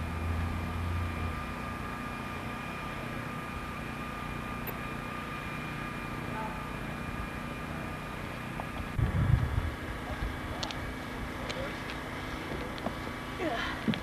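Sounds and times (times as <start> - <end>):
faint high whine: 0.0 - 13.8.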